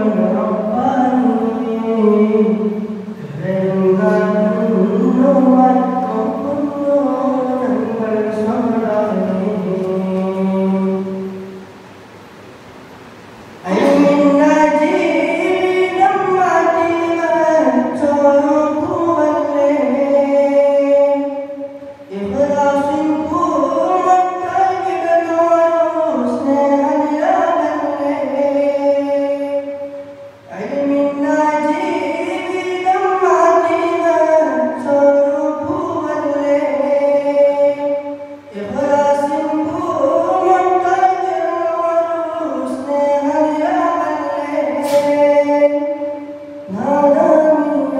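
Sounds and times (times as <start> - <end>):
man singing into a microphone: 0.0 - 11.5, 13.6 - 47.9.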